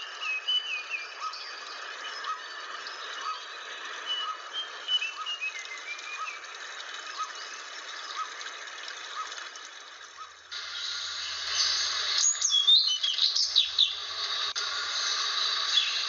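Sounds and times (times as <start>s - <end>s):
bird whistled song: 0.0s - 8.3s, 10.2s - 16.0s.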